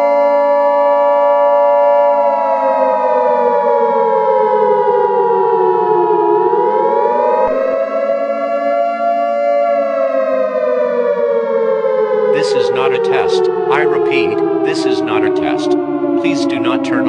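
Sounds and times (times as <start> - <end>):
civil defense siren wailing: 0.0 - 17.0.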